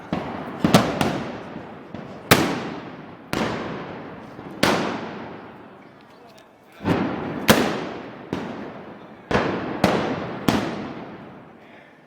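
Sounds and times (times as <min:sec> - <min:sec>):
gunpowder blasts echoing: 0:00.0 - 0:05.8, 0:06.8 - 0:11.6.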